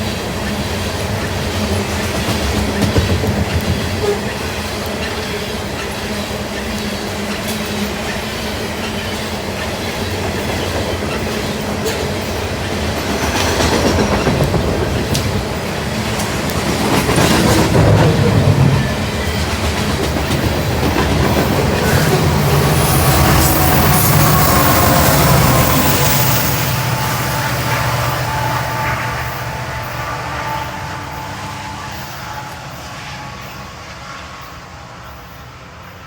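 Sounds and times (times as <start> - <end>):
wheels clacking over rail joints: 0.0 - 31.5
freight train rolling past: 0.0 - 36.0.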